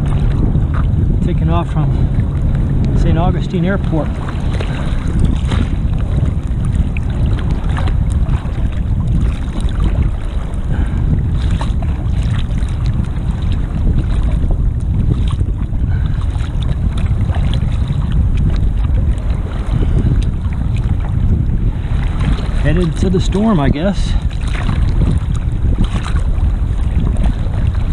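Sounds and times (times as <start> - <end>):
gusty wind buffeting: 0.0 - 27.9
seawater sloshing and splashing: 0.0 - 27.9.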